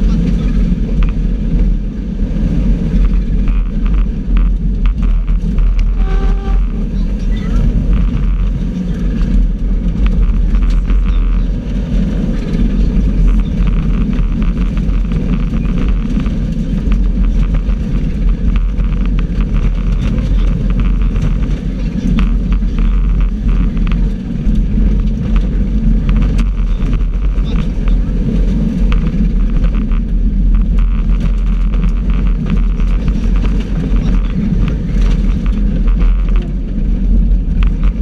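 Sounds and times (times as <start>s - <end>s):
gravel rattling against underbody: 0.0s - 38.0s
rally car engine rumble: 0.0s - 38.0s.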